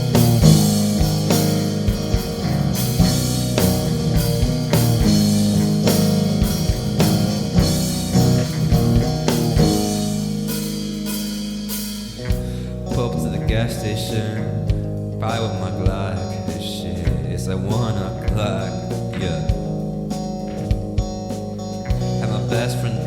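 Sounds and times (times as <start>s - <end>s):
drum kit beat: 0.0s - 23.0s
electric guitar: 0.0s - 23.0s.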